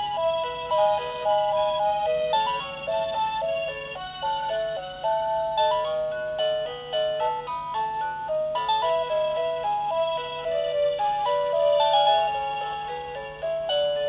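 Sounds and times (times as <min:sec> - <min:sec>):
electronic clock melody: 0:00.0 - 0:14.0
faint steady hum: 0:00.0 - 0:14.0.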